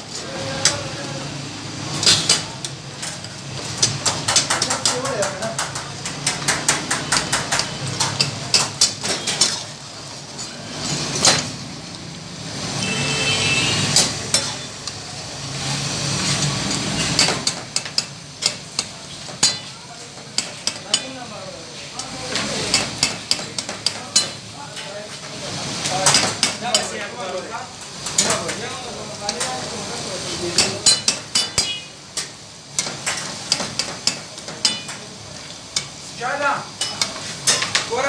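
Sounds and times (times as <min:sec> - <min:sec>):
meat sizzling: 0:00.0 - 0:38.0.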